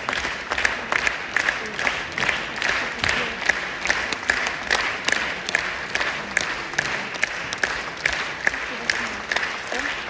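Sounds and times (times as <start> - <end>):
audience applauding: 0.0 - 10.0
sharp rhythmic claps: 0.0 - 10.0.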